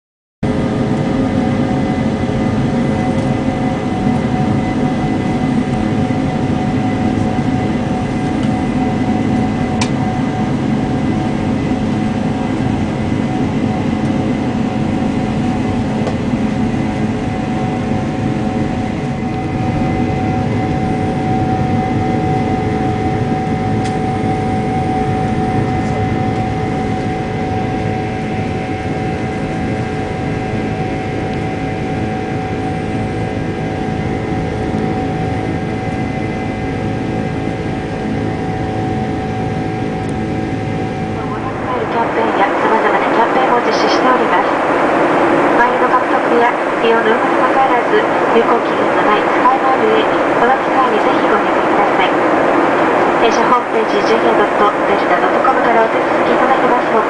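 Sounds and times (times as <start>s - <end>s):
jet engines and cabin noise: 0.4s - 57.0s.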